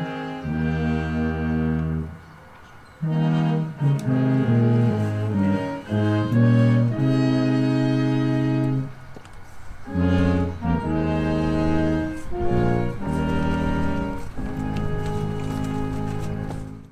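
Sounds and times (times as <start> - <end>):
slow instrumental music: 0.0 - 2.3, 3.0 - 16.9.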